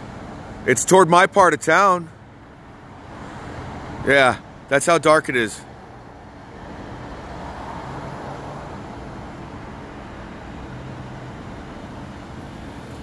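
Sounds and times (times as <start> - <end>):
city traffic rumble and hiss: 0.0 - 13.0.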